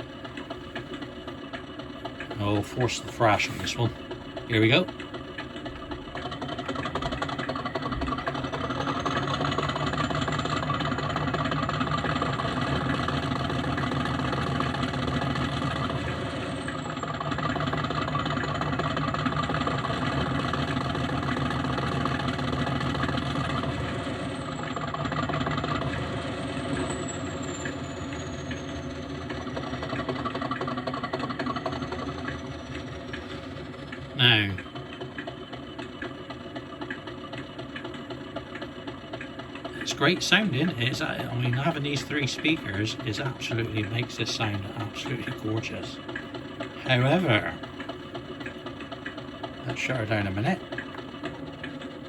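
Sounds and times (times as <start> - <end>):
diesel engine sound from small speaker: 0.0 - 52.0.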